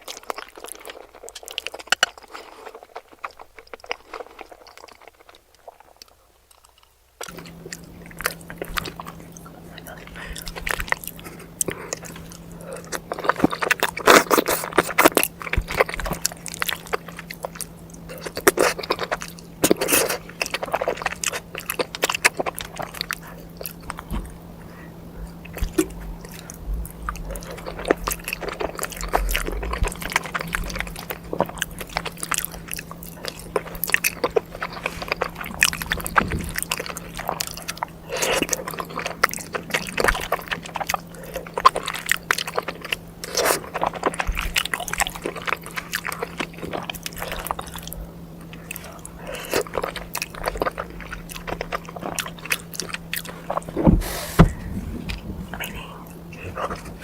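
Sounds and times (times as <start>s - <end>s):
person chewing food: 0.0s - 57.0s
steady low hum: 0.0s - 57.0s
mouth clicks and smacks: 5.6s - 57.0s.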